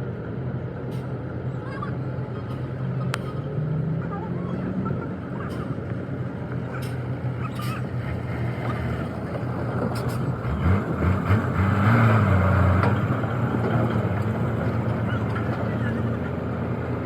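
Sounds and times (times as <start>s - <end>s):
engine running and revving: 2.5s - 17.0s.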